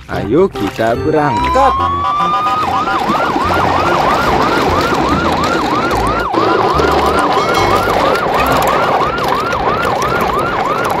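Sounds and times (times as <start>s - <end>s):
electronic siren wailing: 0.6s - 11.0s.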